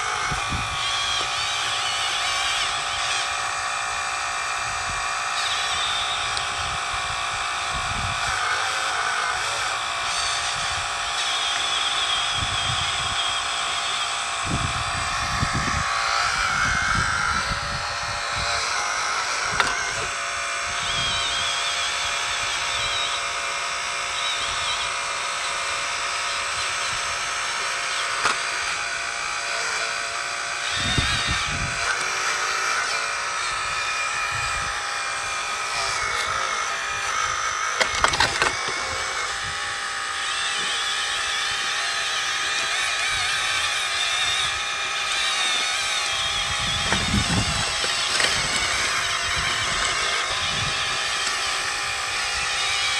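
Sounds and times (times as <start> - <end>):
hydraulic pump whining: 0.0 - 52.9.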